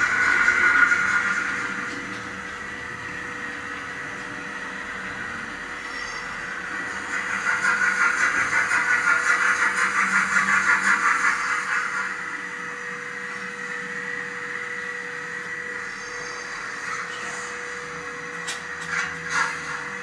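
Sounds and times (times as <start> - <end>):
model locomotive hissing pulse: 0.0 - 20.0
steady hum: 0.0 - 20.0.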